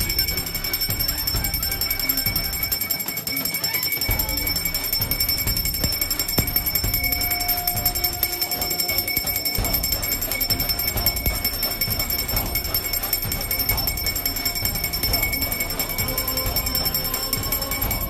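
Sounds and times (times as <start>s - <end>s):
bell ringing rapidly: 0.0s - 18.0s
music: 0.0s - 18.0s.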